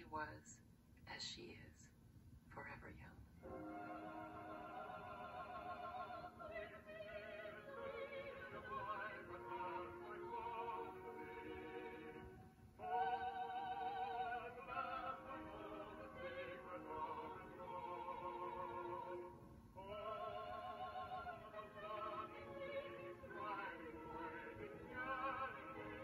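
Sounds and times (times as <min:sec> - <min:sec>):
operatic singing with vibrato: 0:03.5 - 0:26.0.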